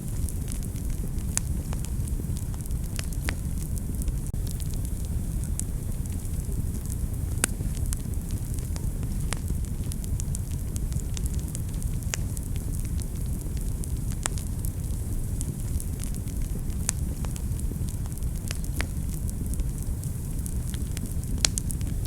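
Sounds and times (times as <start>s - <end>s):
fire rumbling in a fireplace: 0.0s - 22.0s
wood fire crackling and popping: 0.0s - 22.0s.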